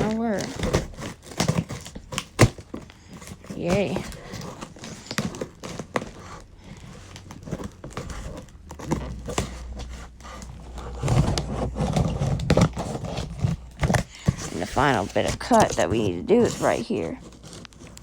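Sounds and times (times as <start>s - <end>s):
cardboard packaging being cut open: 0.0s - 18.0s.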